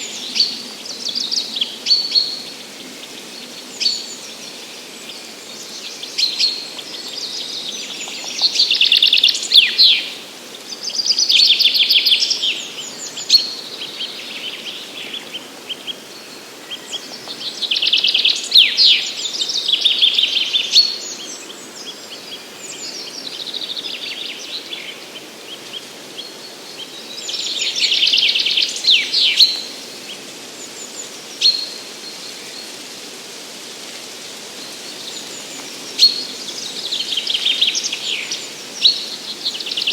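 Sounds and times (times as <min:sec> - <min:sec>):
songbirds singing: 0:00.0 - 0:33.0, 0:34.2 - 0:39.9
faint steady hiss: 0:00.0 - 0:39.9
bird calls: 0:05.7 - 0:32.7, 0:34.6 - 0:39.9.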